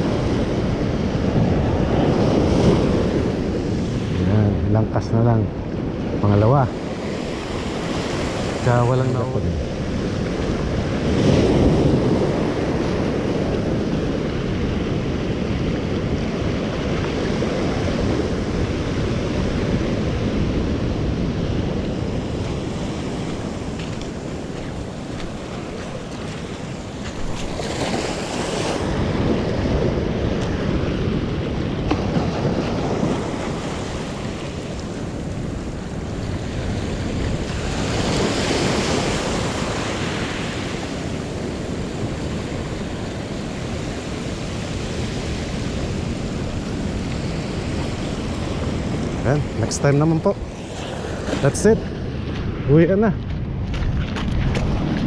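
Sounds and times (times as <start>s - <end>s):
ocean surf breaking: 0.0s - 55.0s
wind on microphone: 0.0s - 55.0s.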